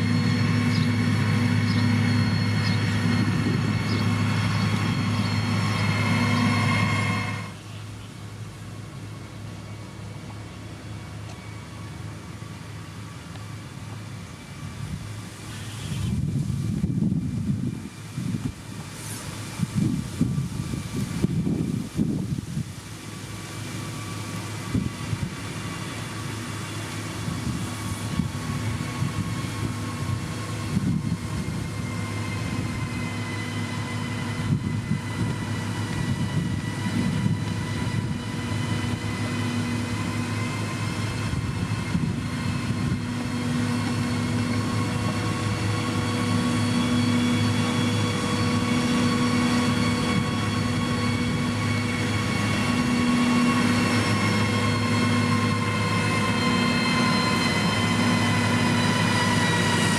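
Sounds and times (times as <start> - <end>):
machine whine: 0.0 - 7.7, 9.0 - 59.9
heavy diesel engine running: 0.0 - 59.9.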